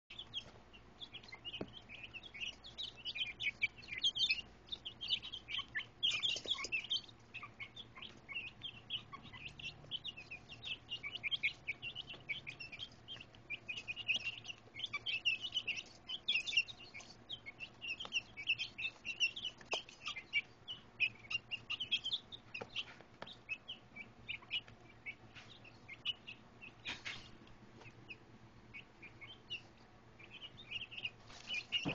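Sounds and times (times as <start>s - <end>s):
chicks peeping: 0.1s - 31.9s.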